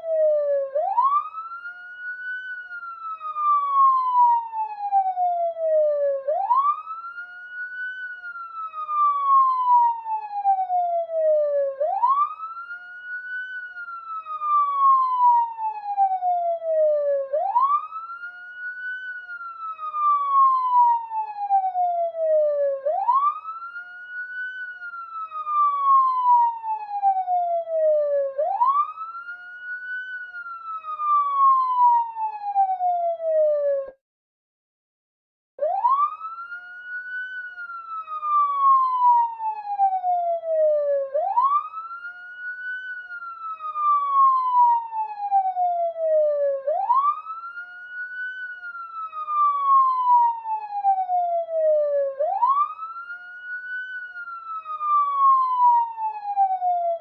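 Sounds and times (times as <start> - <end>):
police siren wailing: 0.0 - 34.0, 35.6 - 57.0.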